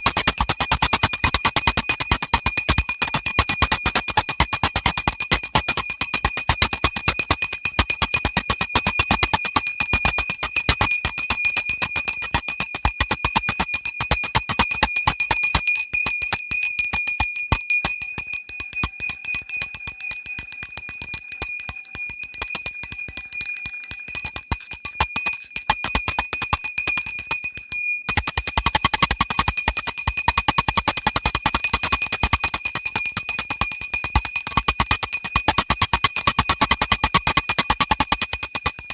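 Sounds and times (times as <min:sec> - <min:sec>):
hand bell ringing rapidly: 0:00.0 - 0:38.9.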